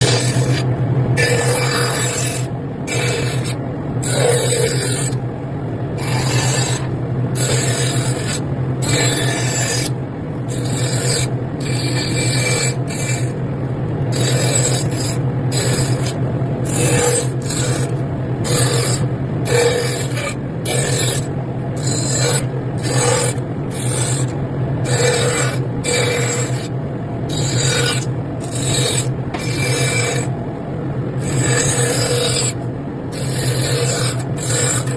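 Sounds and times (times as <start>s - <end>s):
wood being hand-filed: 0.0s - 5.2s, 6.0s - 9.9s, 10.5s - 13.4s, 14.1s - 26.7s, 27.3s - 30.3s, 31.2s - 34.9s
low steady hum: 0.0s - 34.9s.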